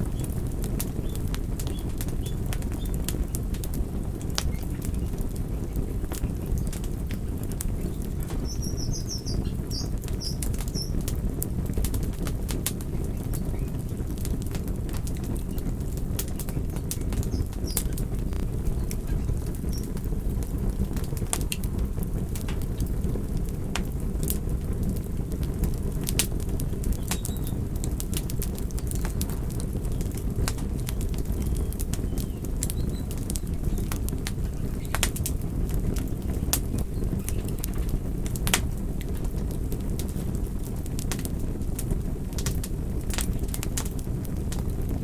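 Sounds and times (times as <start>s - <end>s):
campfire burning: 0.0s - 45.0s
fire crackles and pops: 0.0s - 45.0s.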